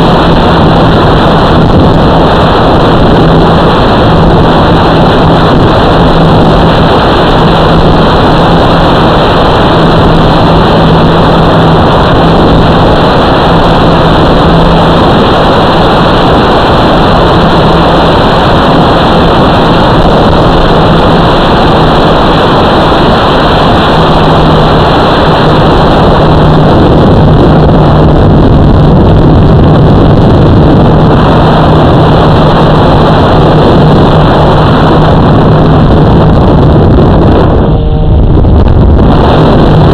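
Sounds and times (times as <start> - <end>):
constant low hum: 0.0 - 39.9
rushing motor noise: 0.0 - 39.9.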